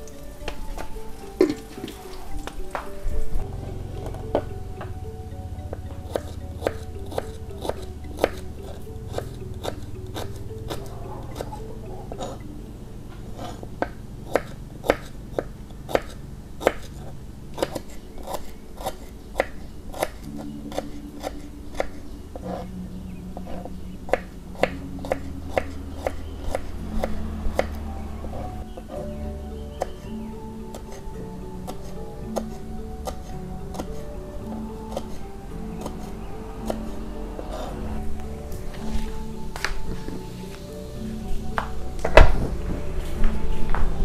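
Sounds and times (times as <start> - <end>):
soft background music: 0.0 - 44.0.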